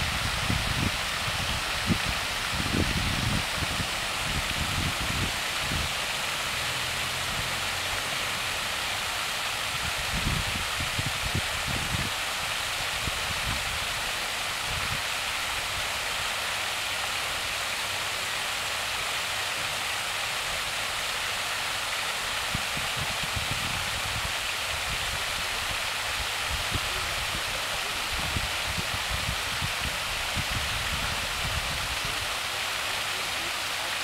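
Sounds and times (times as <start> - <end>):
fountain water splashing: 0.0 - 34.0.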